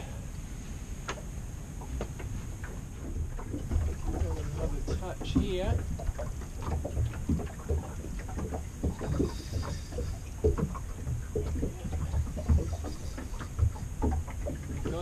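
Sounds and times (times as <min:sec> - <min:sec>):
water slapping boat hull: 0:00.0 - 0:15.0.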